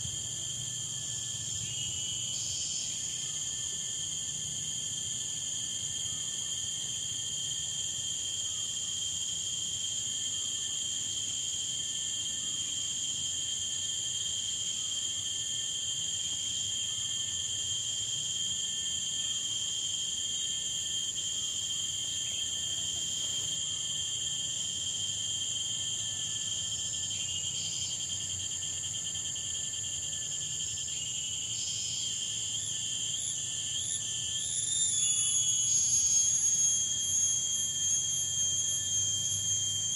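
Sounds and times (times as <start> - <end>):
high-pitched insect trilling: 0.0 - 39.9
pulsing insect chirp: 0.0 - 39.9.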